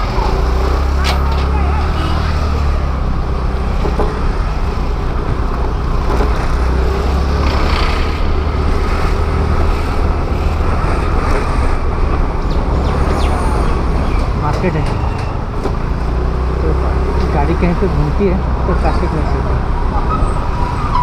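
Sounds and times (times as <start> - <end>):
scooter engine and road noise: 0.0 - 21.0.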